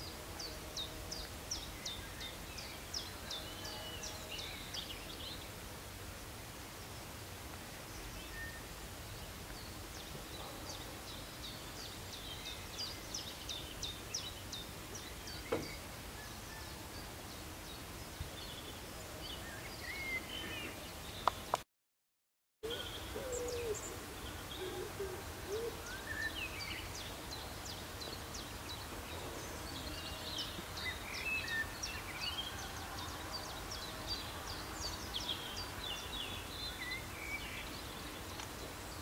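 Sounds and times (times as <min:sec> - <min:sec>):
songbird singing: 0:00.0 - 0:05.7, 0:06.6 - 0:21.6, 0:22.6 - 0:39.0
steady outdoor hiss: 0:00.0 - 0:21.6, 0:22.6 - 0:39.0.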